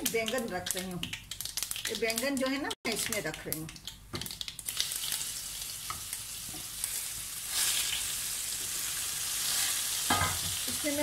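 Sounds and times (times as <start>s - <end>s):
eggplants sizzling in hot oil: 0.0s - 11.0s.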